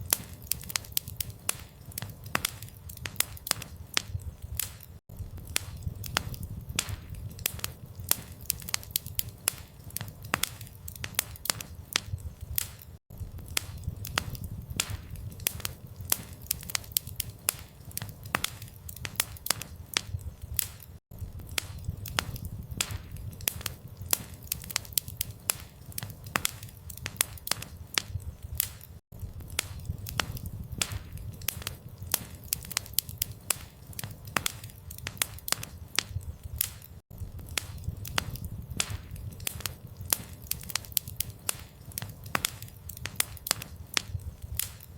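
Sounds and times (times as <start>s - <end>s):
campfire crackling: 0.0s - 44.9s
low rumble of flame: 0.0s - 44.9s.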